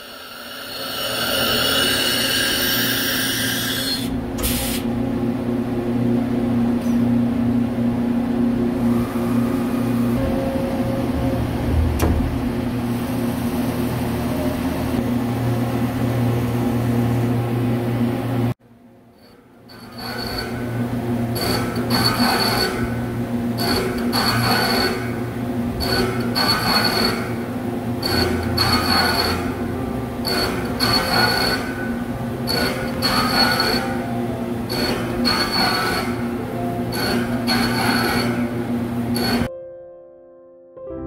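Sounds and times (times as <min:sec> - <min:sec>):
lathe machine hum: 0:00.0 - 0:18.6, 0:19.2 - 0:39.5.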